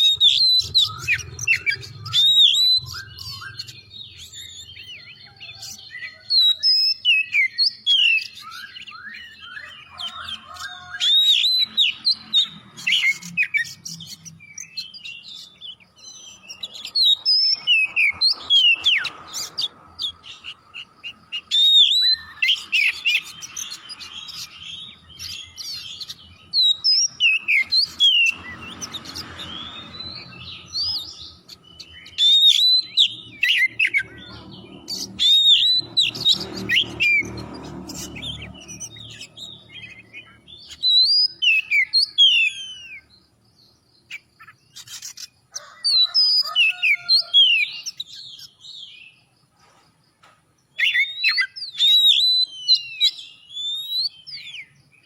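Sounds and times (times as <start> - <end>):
bird singing whistles and chatter: 0.0 - 43.2, 50.7 - 54.8.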